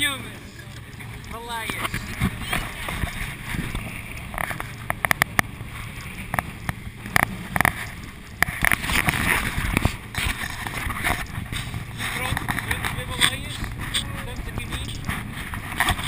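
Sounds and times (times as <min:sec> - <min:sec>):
bow slapping waves: 0:00.0 - 0:16.0
motorboat engine and water rush: 0:00.0 - 0:16.0.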